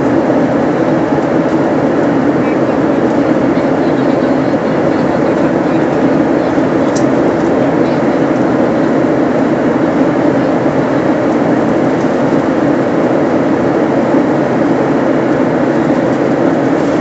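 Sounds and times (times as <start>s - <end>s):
airliner cabin engine noise: 0.0s - 17.0s.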